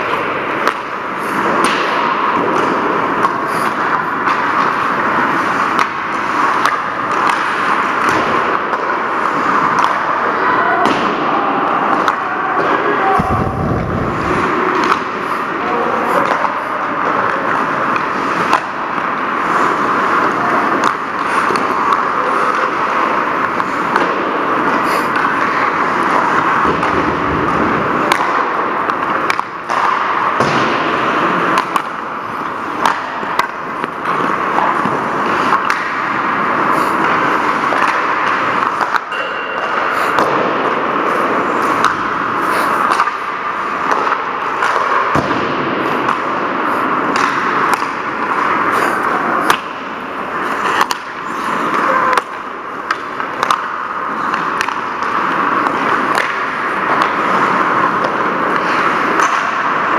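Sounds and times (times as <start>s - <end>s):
skate blades scraping ice: 0.0s - 10.9s, 11.8s - 59.9s
hockey sticks and puck clacking: 0.0s - 59.9s.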